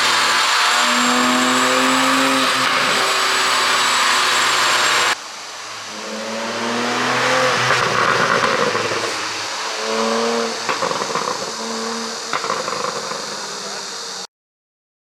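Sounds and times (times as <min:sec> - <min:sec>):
sports car engine revving: 0:00.0 - 0:14.2
heavy rushing noise: 0:00.0 - 0:14.3.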